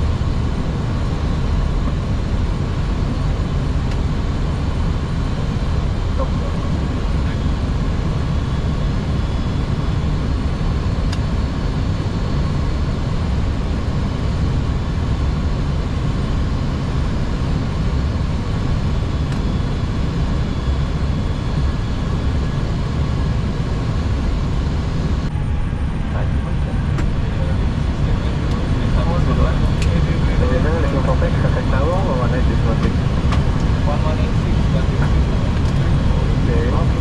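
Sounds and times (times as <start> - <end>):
low rumble of airflow: 0.0 - 37.0.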